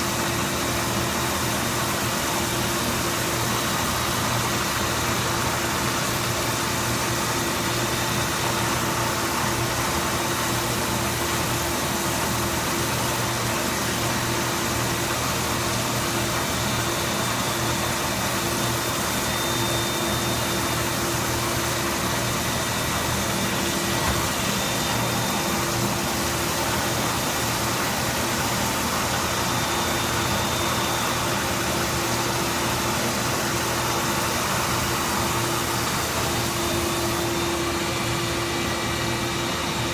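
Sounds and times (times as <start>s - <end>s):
cnc machine running: 0.4s - 39.9s.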